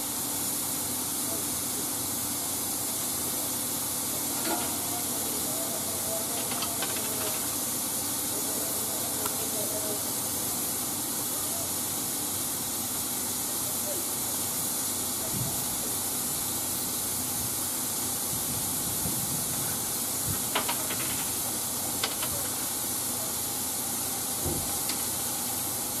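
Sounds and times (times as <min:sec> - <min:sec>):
steam hissing from locomotive: 0:00.0 - 0:26.0.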